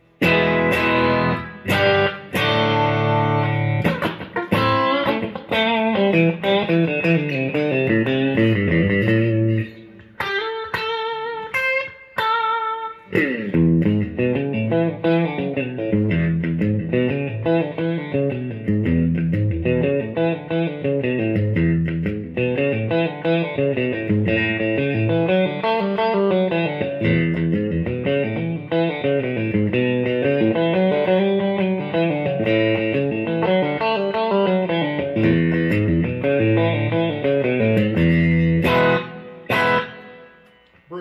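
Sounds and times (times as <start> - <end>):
overdriven electric guitar blues: 0.0 - 40.9.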